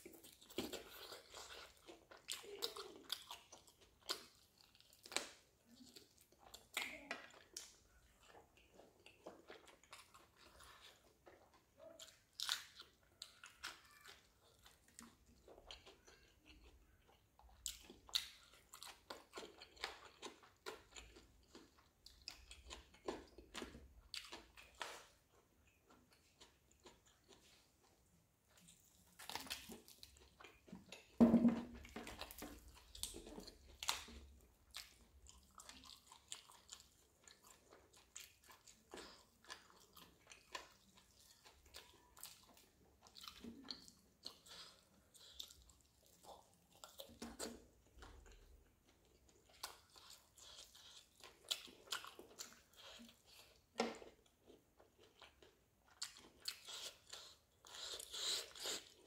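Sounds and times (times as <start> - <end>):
chewing with wet smacks: 0.0 - 59.0.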